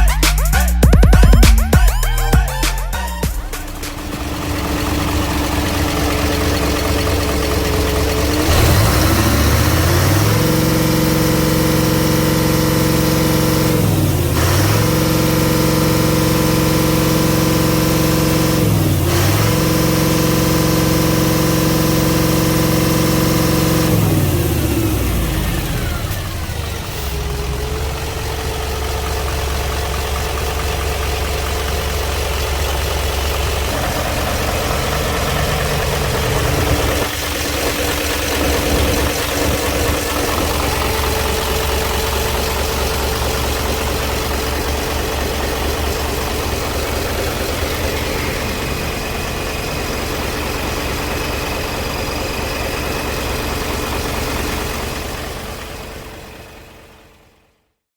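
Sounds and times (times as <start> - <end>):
truck engine idling: 0.0 - 57.7.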